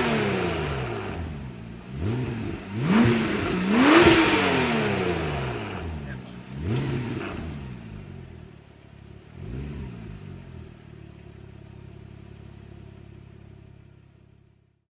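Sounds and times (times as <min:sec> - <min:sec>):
car engine idling: 0:00.0 - 0:14.8.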